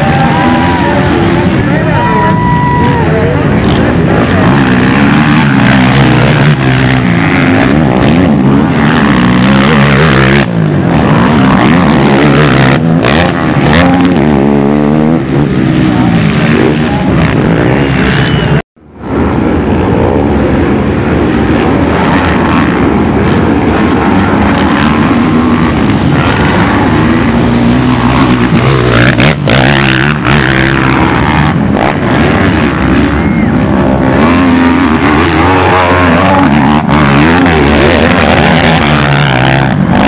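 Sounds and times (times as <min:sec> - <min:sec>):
quad engines revving: 0:00.0 - 0:40.0.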